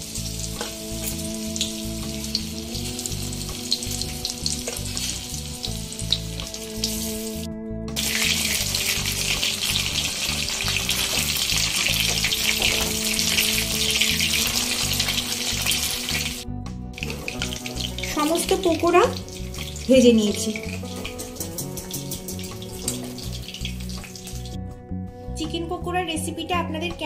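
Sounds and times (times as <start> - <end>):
chicken deep-frying in oil: 0.0 - 7.2, 8.0 - 16.4, 17.0 - 24.6.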